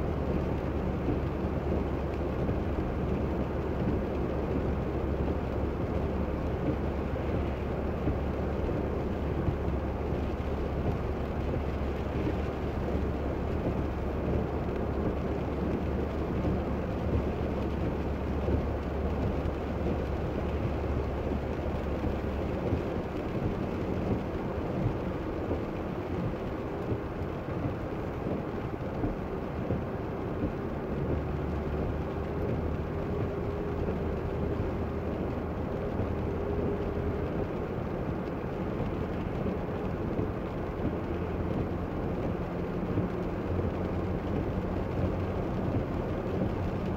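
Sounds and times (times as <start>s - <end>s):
car engine hum: 0.0s - 46.9s
rain: 0.0s - 46.9s
road and tyre noise: 0.0s - 46.9s.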